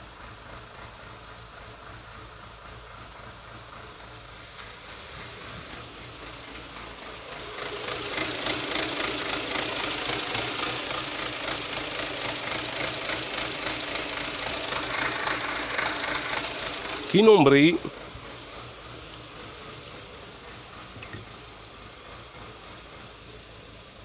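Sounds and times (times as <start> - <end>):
car engine idling roughly: 0.0 - 24.0
steady rattling noise: 0.0 - 24.0.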